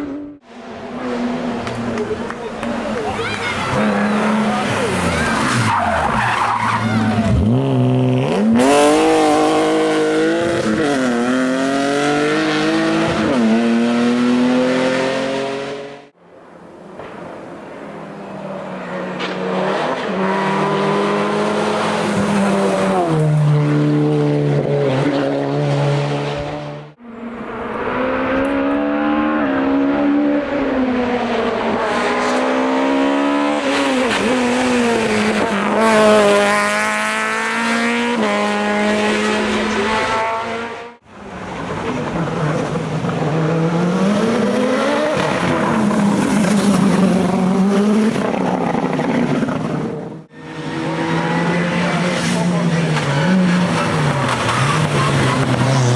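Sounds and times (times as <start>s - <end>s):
race car engines at full throttle: 0.0s - 55.9s.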